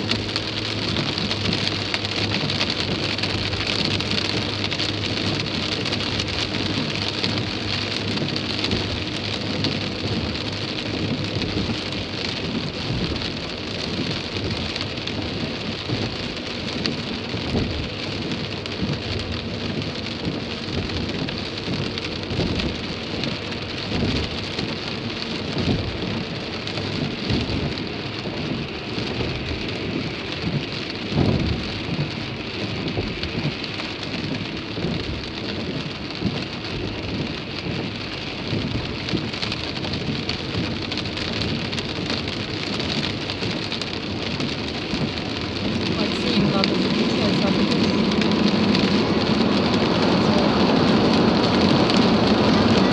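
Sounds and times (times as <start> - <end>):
heavy rain drumming on car roof: 0.0 - 52.9.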